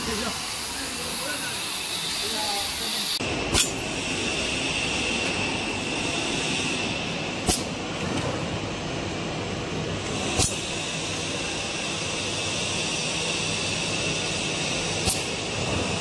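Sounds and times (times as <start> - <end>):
machine whirring and hissing: 0.0 - 16.0.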